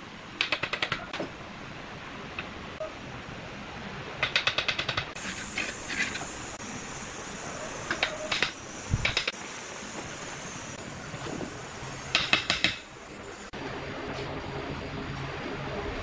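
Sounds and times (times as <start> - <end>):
steady high hiss: 1.4 - 15.3.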